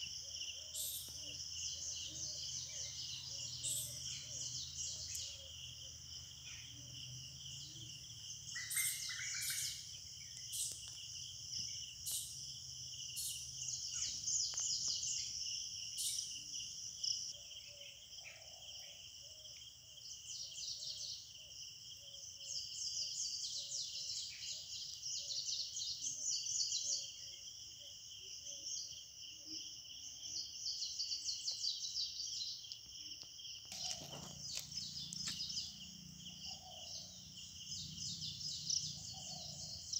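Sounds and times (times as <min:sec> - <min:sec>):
birds chirping and trilling: 0:00.0 - 0:21.3, 0:22.2 - 0:39.9
insects droning: 0:00.0 - 0:39.9.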